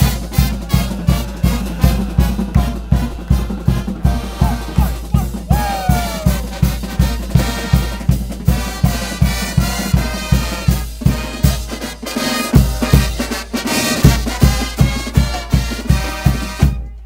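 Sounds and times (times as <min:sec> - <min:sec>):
bass drum beat: 0:00.0 - 0:11.8, 0:12.5 - 0:17.0
trumpets and trombones: 0:00.0 - 0:17.0.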